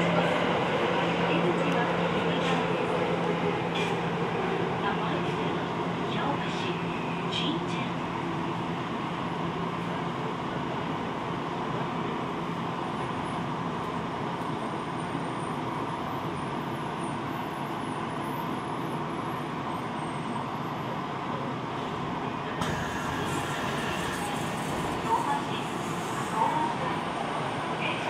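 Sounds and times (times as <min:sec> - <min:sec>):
subway car rumble and hiss: 0:00.0 - 0:28.0.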